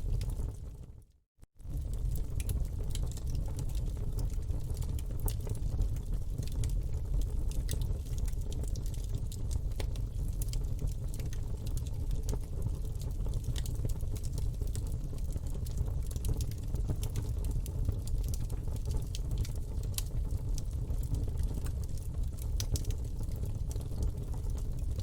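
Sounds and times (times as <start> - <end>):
campfire crackling and popping: 0.1 - 0.6, 1.6 - 25.0.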